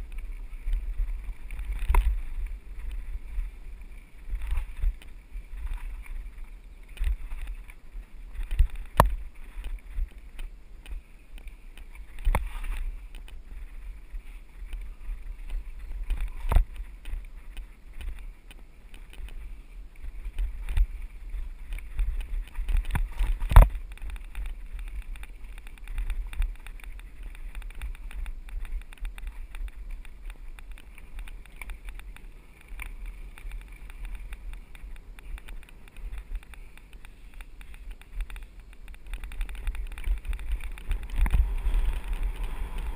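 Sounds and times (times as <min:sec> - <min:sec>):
bike knocking and rattling on rocks: 0:00.0 - 0:42.9
wind rumble on microphone: 0:00.0 - 0:42.9.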